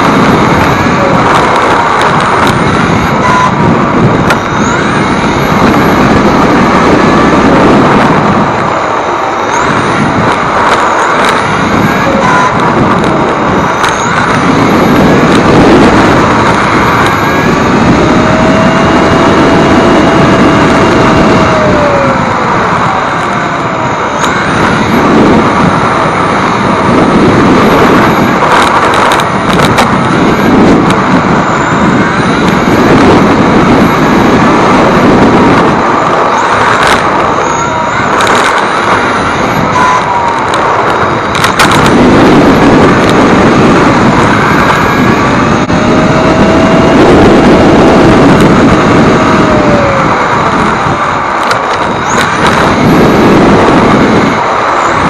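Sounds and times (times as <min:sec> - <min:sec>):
electric motor whine: 0:00.0 - 0:55.0
rush of tyres and air: 0:00.0 - 0:55.0.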